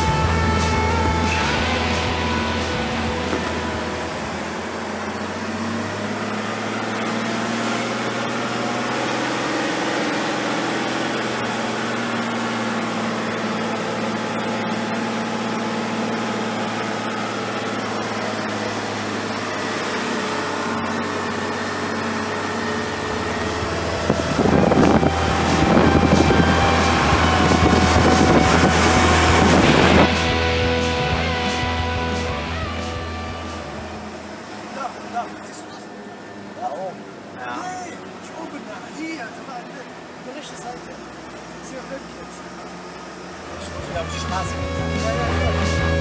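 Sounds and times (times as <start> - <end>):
truck diesel engine droning: 0.0 - 46.0.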